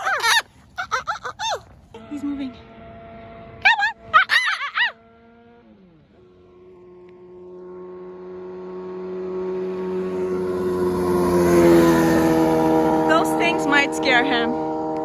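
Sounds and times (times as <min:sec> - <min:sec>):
engine droning by: 0:00.0 - 0:15.0.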